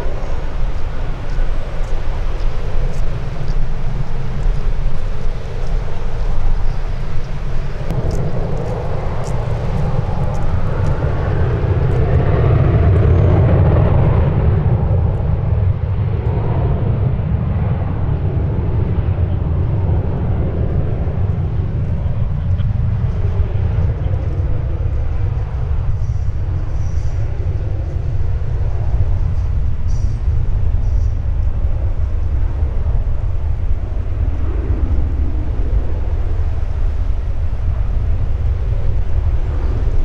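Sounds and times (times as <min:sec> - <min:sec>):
aircraft engine passing: 0:00.0 - 0:40.0
wind buffeting microphone: 0:00.0 - 0:40.0.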